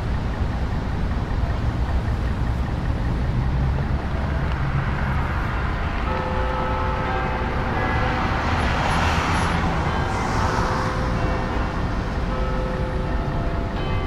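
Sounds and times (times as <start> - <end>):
low rumble of road traffic: 0.0 - 14.0.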